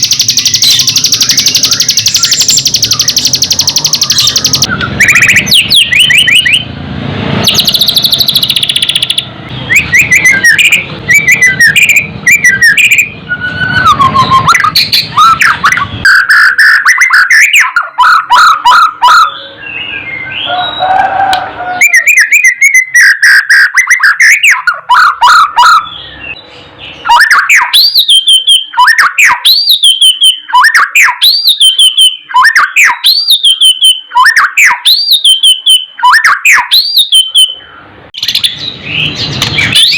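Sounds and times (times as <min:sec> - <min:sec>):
bird singing whistles and chatter: 0:00.0 - 0:06.7, 0:07.4 - 0:39.9.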